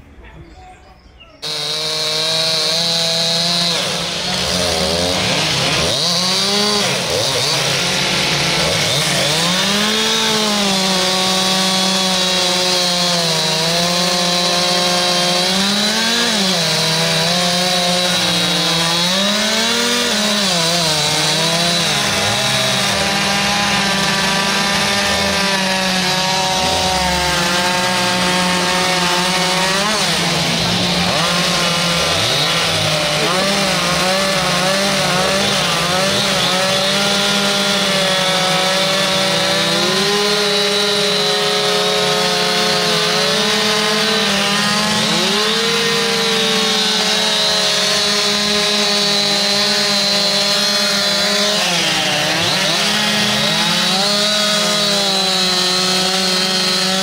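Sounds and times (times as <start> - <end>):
chainsaw carving wood: 1.4 - 57.0.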